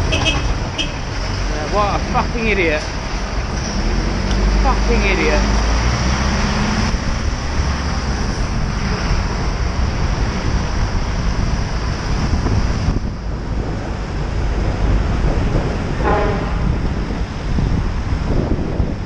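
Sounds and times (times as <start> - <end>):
road traffic rumble: 0.0 - 19.0
wind rushing over microphone: 0.0 - 19.0.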